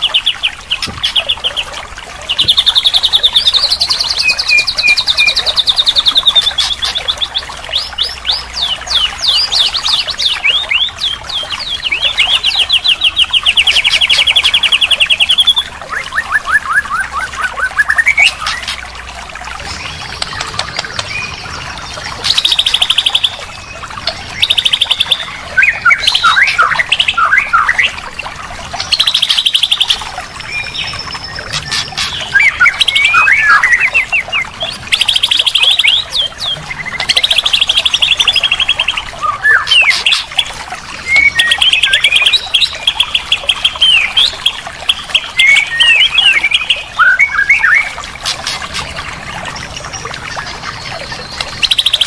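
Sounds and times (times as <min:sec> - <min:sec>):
bird song with rapid trills: 0:00.0 - 0:28.1, 0:28.7 - 0:52.0.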